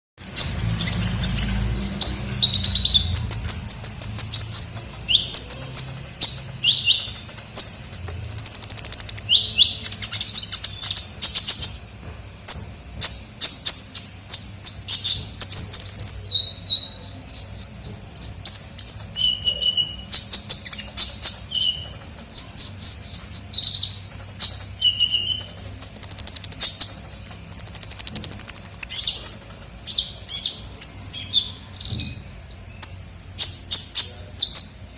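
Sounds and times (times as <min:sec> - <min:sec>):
bird chirping and trilling: 0:00.2 - 0:11.8, 0:12.5 - 0:34.9.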